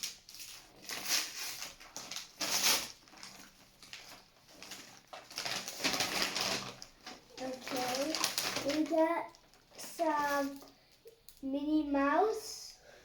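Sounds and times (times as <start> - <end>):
packaging rustling and crinkling: 0.0 - 11.4.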